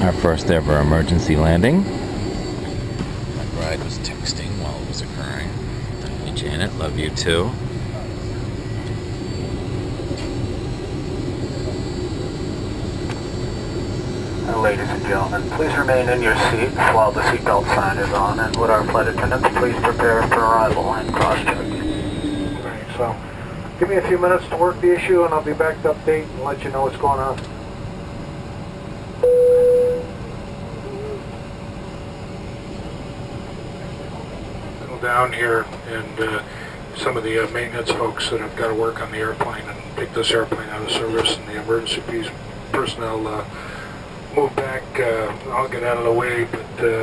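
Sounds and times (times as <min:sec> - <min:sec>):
cabin air: 0:00.0 - 0:47.0
jet engines rumbling: 0:00.0 - 0:47.0.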